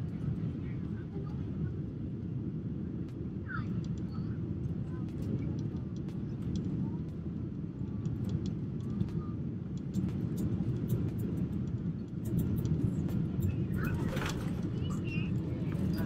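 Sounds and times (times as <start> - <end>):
jet cabin low rumble: 0.0 - 16.0.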